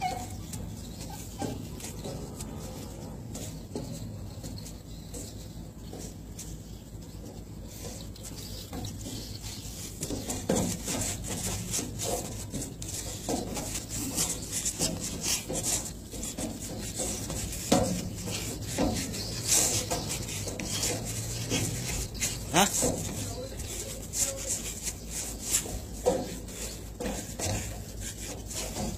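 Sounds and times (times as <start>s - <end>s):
shadow boxing scuffs and rubbing: 0.0s - 28.9s
steady low hum: 0.0s - 28.9s.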